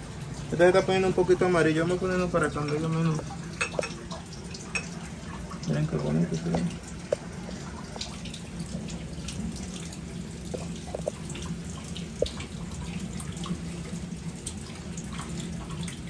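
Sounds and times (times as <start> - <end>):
low steady hum: 0.0 - 16.0
small drips and splashes: 0.0 - 16.0
water trickling: 0.0 - 16.0.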